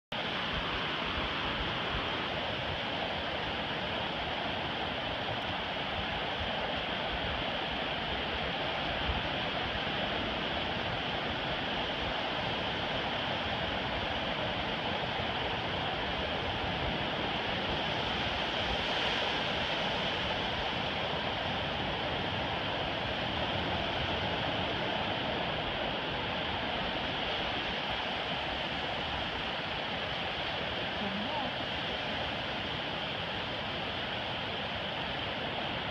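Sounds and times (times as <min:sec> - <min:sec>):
ocean surf breaking: 0:00.2 - 0:35.9.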